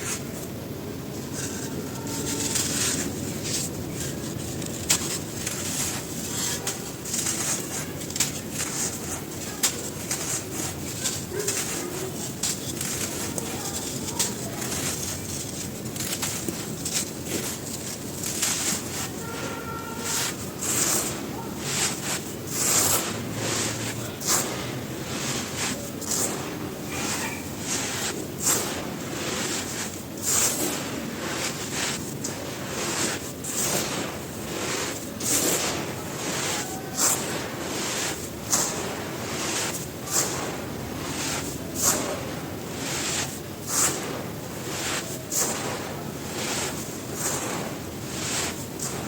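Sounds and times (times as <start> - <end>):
chalk crunching and crumbling: 1.2 - 49.0
chalk snapping: 1.4 - 49.0.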